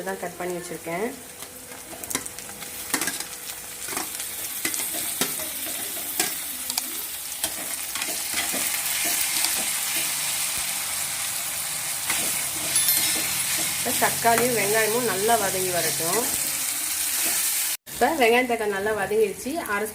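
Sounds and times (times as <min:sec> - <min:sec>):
onions sizzling in hot oil: 0:00.0 - 0:19.9.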